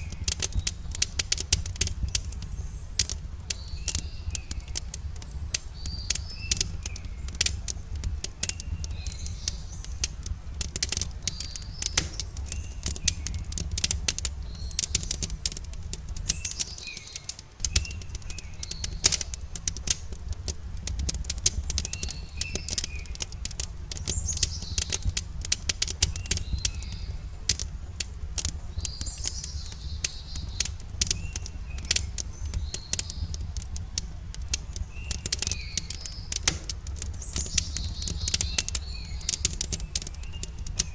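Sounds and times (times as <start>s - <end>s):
campfire crackling and popping: 0.0s - 40.9s
small birds chirping: 0.0s - 40.9s.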